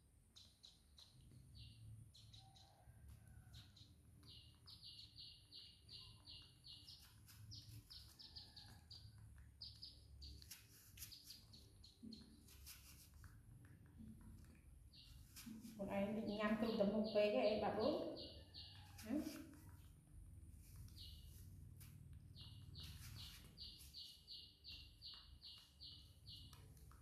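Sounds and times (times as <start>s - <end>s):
bird chirping: 0.2s - 13.0s, 13.9s - 19.9s, 20.6s - 27.0s.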